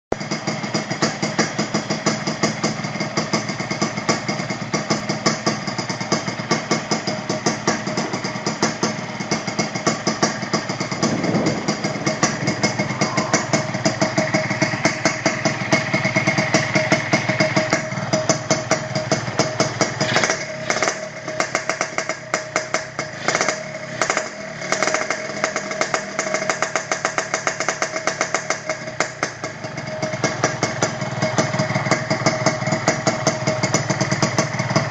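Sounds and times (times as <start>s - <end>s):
two-stroke motorcycle engine idling: 0.1s - 34.9s.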